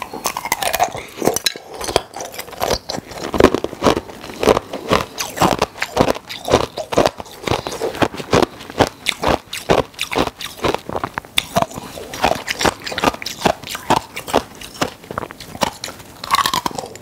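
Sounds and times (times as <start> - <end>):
ice crunching being chewed: 0.0 - 17.0.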